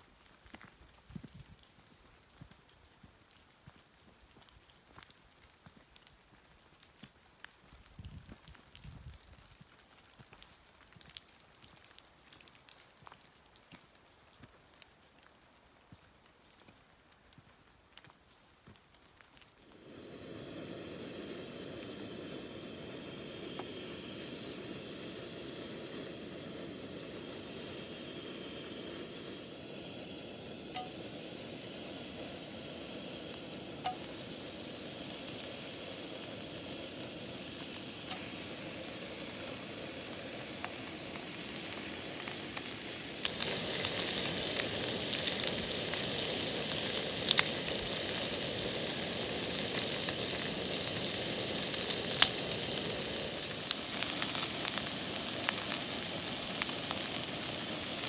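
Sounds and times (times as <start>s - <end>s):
frying sizzle with pops: 0.0s - 58.0s.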